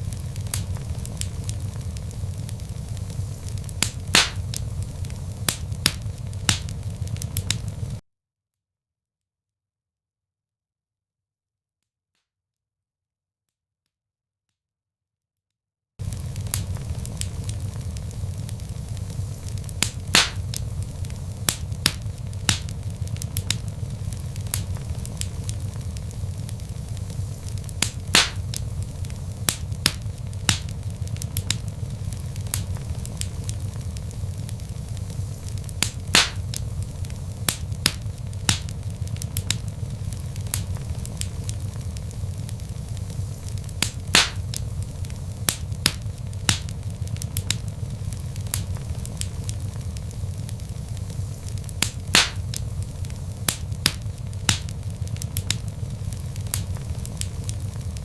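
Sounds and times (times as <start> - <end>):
log fire crackling: 0.0 - 8.0, 16.0 - 58.0
loud fire pops: 0.0 - 8.0, 16.0 - 58.0.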